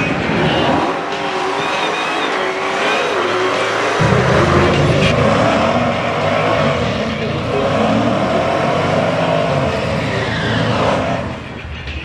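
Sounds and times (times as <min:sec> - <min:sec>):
car engine revving: 0:00.0 - 0:11.8
tyres spinning and squealing: 0:00.0 - 0:12.0.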